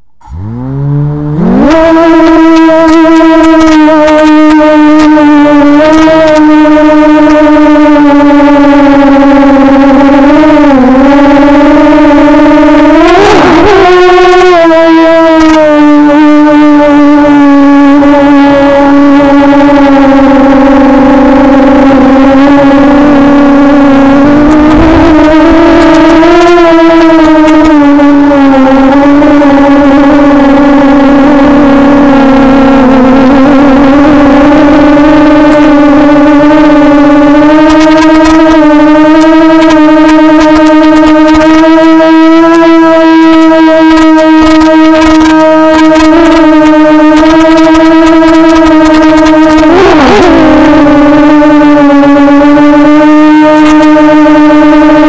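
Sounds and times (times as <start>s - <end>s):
crackling: 0.2s - 54.6s
quadcopter motors whining: 0.2s - 55.0s.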